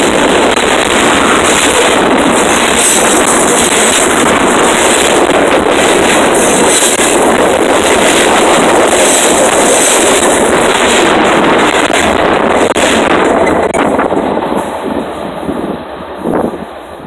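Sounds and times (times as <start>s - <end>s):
train rolling over microphone: 0.0s - 17.0s.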